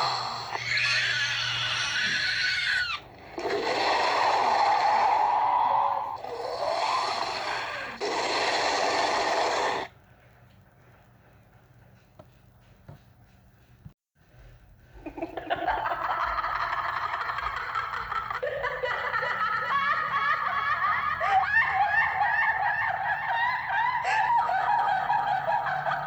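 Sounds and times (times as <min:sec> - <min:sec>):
high-pitched monster cackles: 0:00.0 - 0:09.9, 0:15.0 - 0:26.0.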